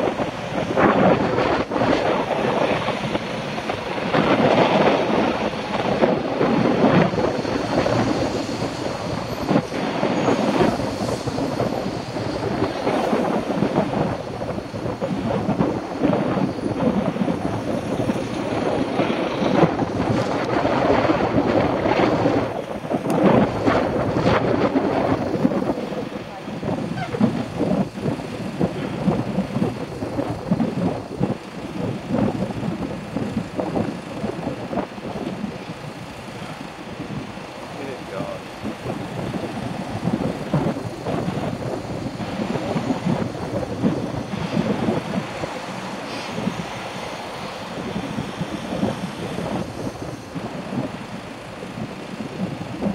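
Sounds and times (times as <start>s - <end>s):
city traffic rumble: 0.0s - 52.9s
wind on microphone: 0.0s - 52.9s.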